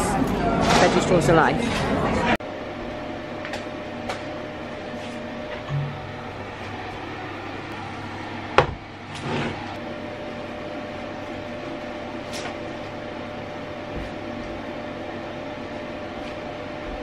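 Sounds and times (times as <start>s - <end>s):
oven fan humming: 0.0s - 17.0s.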